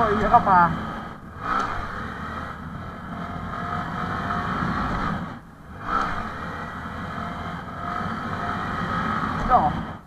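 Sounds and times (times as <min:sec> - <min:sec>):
motorbike engine under throttle: 0:00.0 - 0:10.0.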